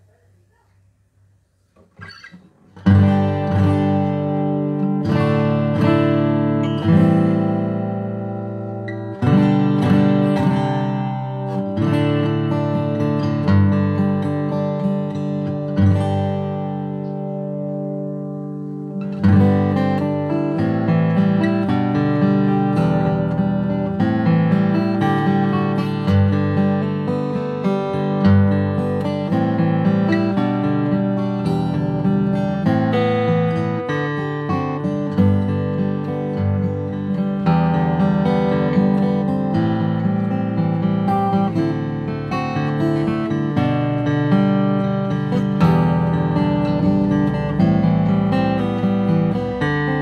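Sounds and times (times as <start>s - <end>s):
acoustic guitar chords: 0.0s - 50.0s.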